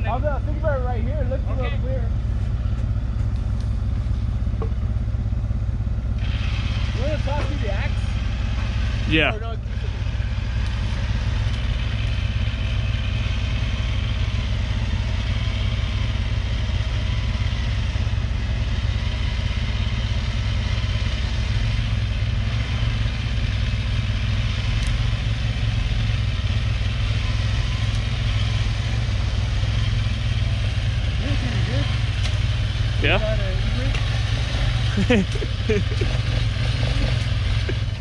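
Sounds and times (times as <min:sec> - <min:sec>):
atv engine running: 0:00.0 - 0:38.0
car engine idling: 0:00.0 - 0:38.0.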